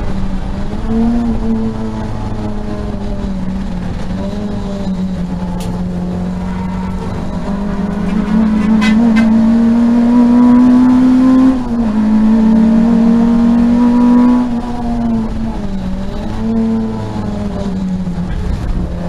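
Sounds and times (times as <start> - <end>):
race car engine at full throttle: 0.0 - 19.0.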